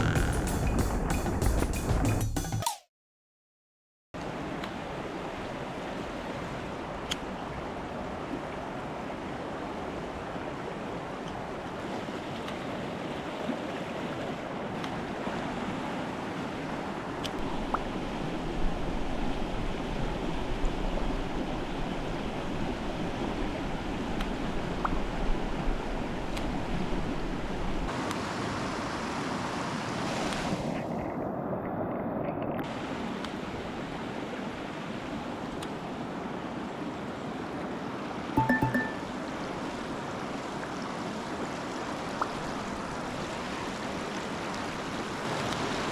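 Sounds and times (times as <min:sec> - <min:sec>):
stream water rushing: 0:04.2 - 0:24.8, 0:27.9 - 0:30.8, 0:32.7 - 0:45.9.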